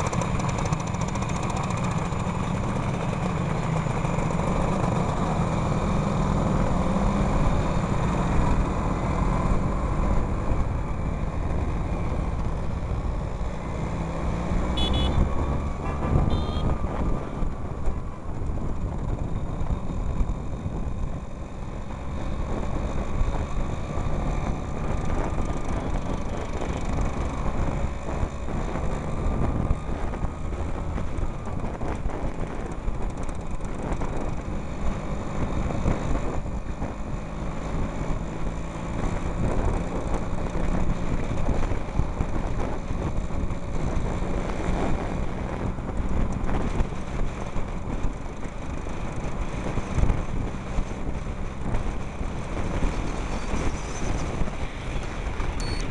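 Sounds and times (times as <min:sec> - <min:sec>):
scooter engines running: 0:00.0 - 0:37.8, 0:38.4 - 0:55.9
wind noise: 0:04.7 - 0:55.9.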